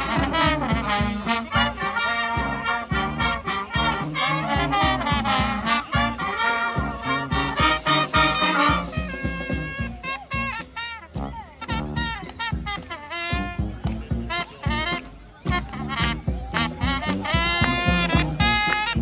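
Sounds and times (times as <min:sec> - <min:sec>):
brass band playing swing tune: 0:00.0 - 0:19.0.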